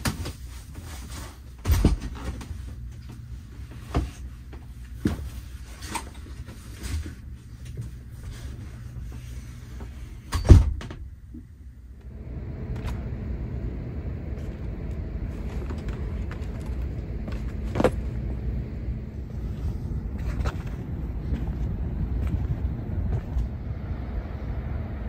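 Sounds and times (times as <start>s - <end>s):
low rumble of outdoor noise: 0.0s - 25.0s.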